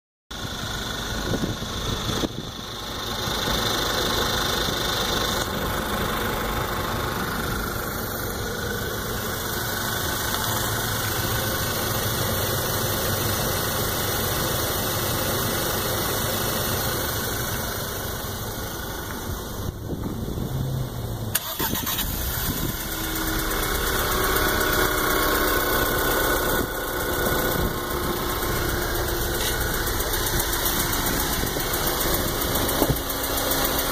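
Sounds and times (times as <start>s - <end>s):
car engine running: 0.3s - 33.9s
engine ticking: 0.3s - 33.9s.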